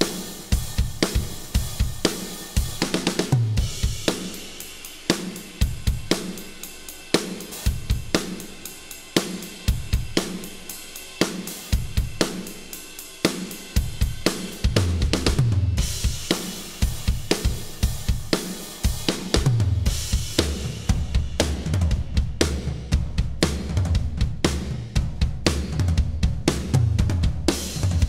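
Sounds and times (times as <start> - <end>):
drum fill on toms: 0.0 - 28.0
rock drum groove: 0.0 - 28.0.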